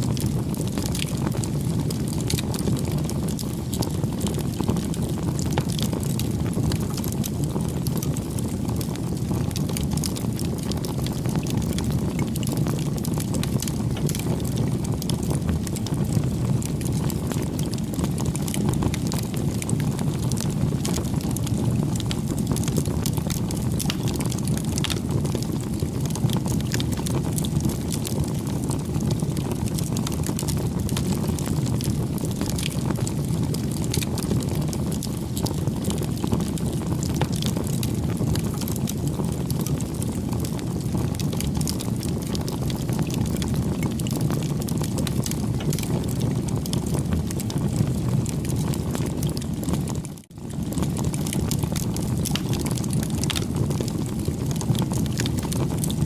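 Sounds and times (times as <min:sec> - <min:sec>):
campfire flames rumbling: 0:00.0 - 0:56.0
wood crackling and popping: 0:00.0 - 0:56.0.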